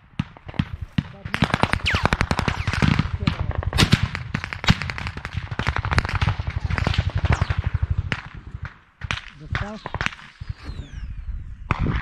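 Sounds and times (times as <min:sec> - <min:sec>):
rifle gunfire: 0:00.2 - 0:12.0.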